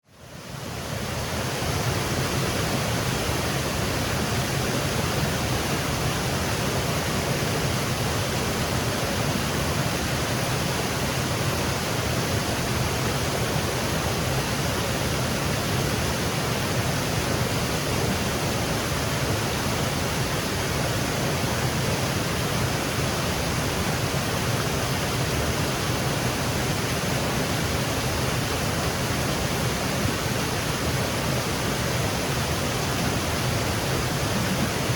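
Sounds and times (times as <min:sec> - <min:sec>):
waterfall cascading: 0:00.5 - 0:34.9.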